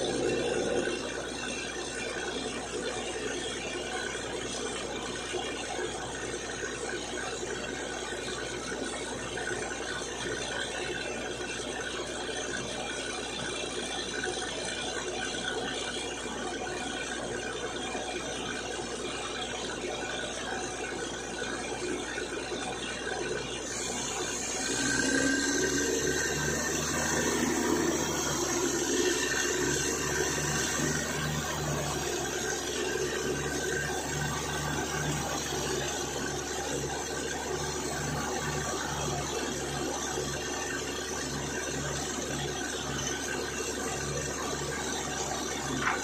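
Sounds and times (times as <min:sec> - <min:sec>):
drilling rig and air compressor: 0:00.0 - 0:46.0.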